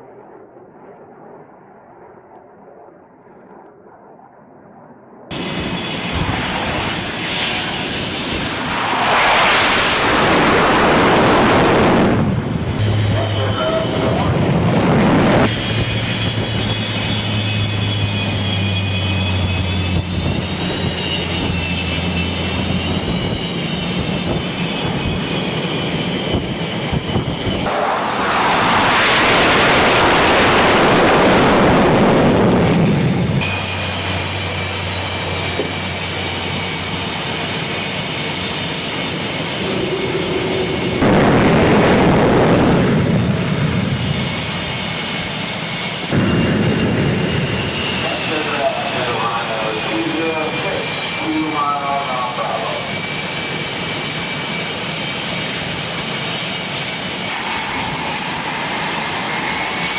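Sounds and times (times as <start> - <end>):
jet engine whine: 0.0 - 59.9
jet noise roar: 0.0 - 59.9.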